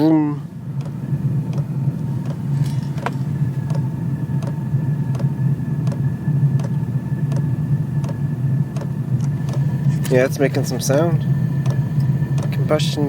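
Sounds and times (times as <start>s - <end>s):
air heater combustion rumble: 0.0s - 13.0s
fan hum with faint whine: 0.0s - 13.0s
fuel pump ticking: 0.6s - 13.0s.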